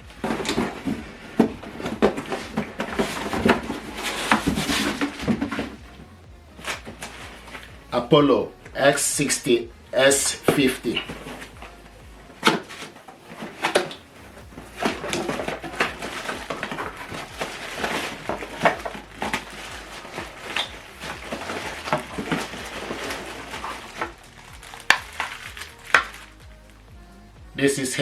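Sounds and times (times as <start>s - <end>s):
packaging rustling: 0.0s - 5.9s, 9.3s - 26.9s.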